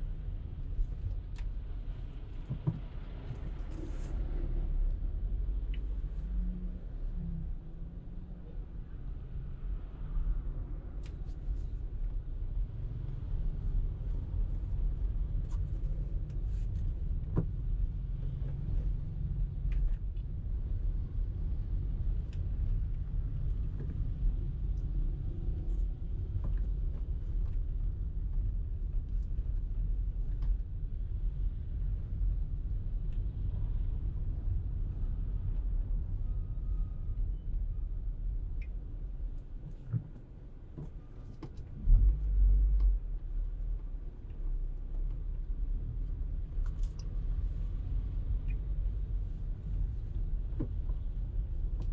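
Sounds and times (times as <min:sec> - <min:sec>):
car driving rumble: 0:00.0 - 0:51.9.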